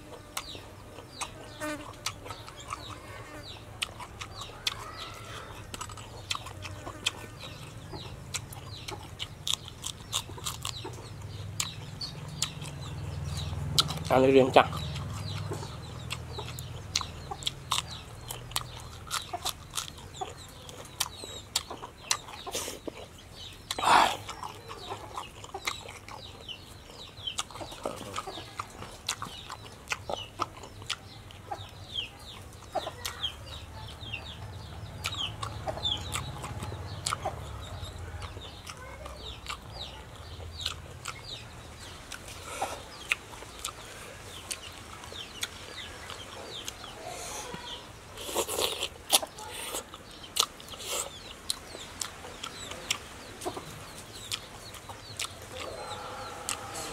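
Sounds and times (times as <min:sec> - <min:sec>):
chickens clucking: 0:00.0 - 0:56.9
chewing and lip smacks: 0:00.1 - 0:56.9.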